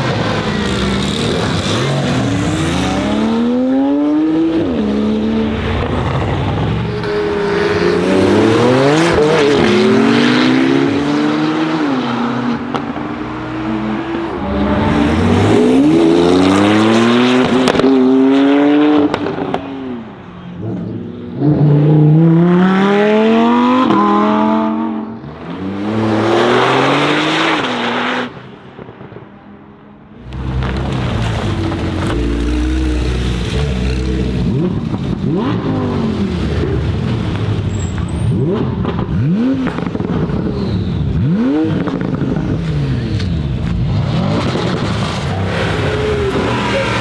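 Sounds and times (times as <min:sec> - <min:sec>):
car engine accelerating hard: 0:00.0 - 0:29.1, 0:30.1 - 0:47.0.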